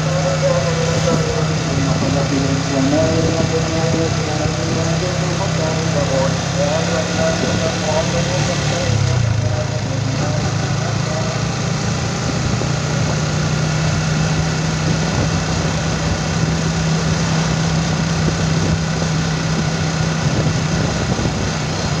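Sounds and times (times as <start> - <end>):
vehicle engine humming: 0.0 - 22.0
wind and road noise: 0.0 - 22.0.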